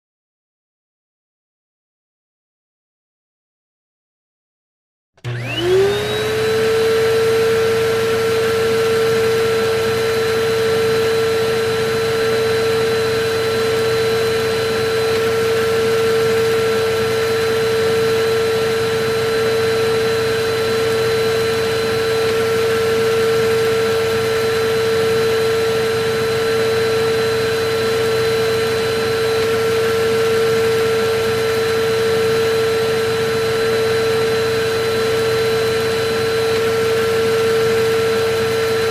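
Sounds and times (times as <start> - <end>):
vacuum cleaner running: 5.2 - 38.9.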